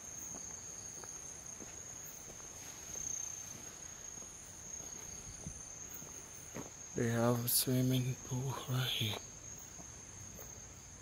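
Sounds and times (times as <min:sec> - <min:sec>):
faint footsteps on path: 0:00.0 - 0:11.0
high-pitched insect drone: 0:00.0 - 0:11.0.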